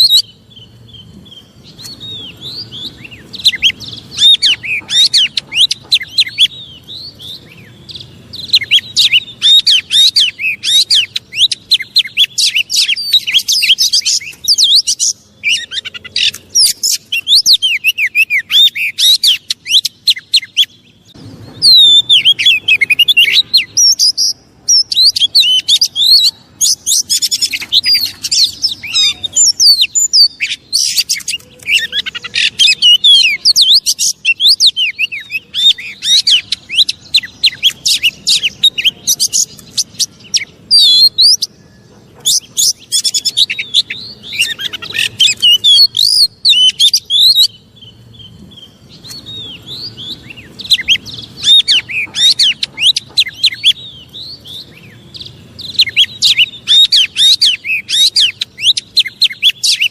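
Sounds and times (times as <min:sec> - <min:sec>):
bird singing whistles and chatter: 0:00.0 - 0:59.9.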